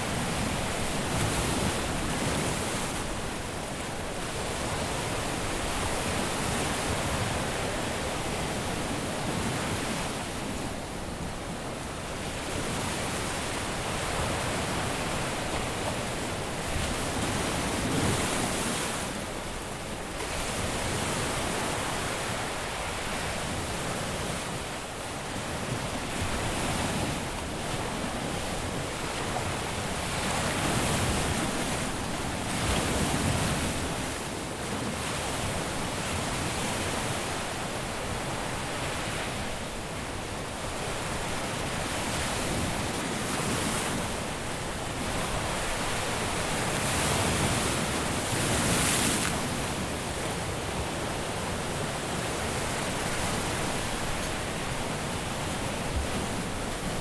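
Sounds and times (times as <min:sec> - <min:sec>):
surf washing on a beach: 0:00.0 - 0:57.0.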